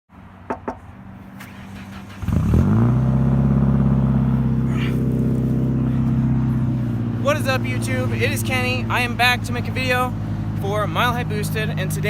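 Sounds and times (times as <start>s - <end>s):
car engine starting and idling: 0.6s - 12.0s.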